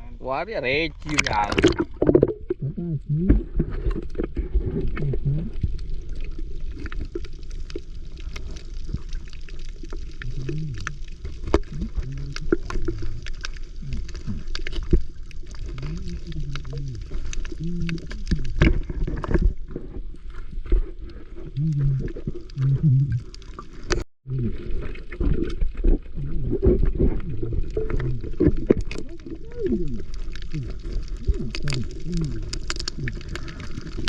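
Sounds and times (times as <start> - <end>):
underwater crackling clicks: 0.9 - 2.7, 3.6 - 19.7, 21.0 - 24.0, 24.8 - 34.0.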